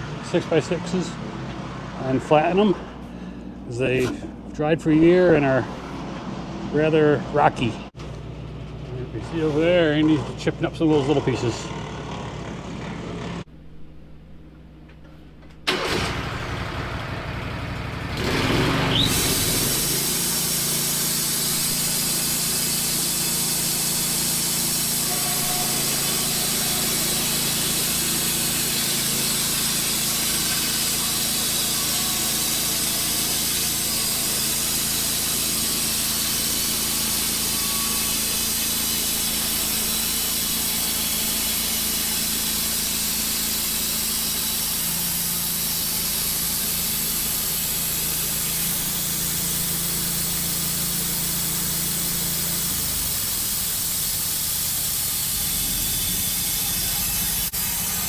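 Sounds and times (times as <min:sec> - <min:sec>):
band sawmill sawing wood: 0:00.0 - 0:07.9, 0:09.1 - 0:13.5, 0:18.1 - 0:58.0.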